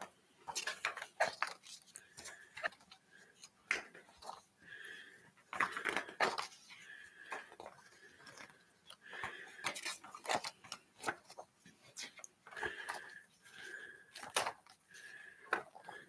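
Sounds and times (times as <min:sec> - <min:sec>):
book pages turning: 0:00.4 - 0:16.0.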